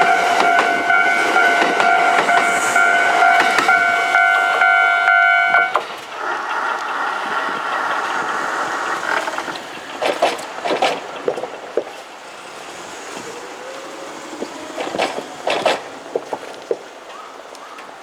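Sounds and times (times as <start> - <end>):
knocks and clacks: 0.0 - 17.9
train rolling past: 0.0 - 18.0.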